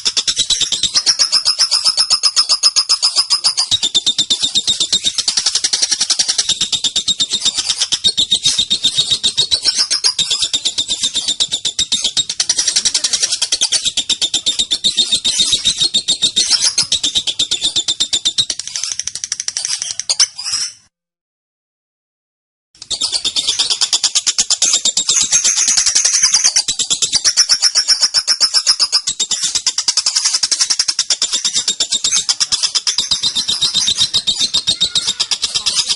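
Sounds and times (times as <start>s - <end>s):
lovebird chattering trill: 0.0s - 20.8s, 22.8s - 35.9s.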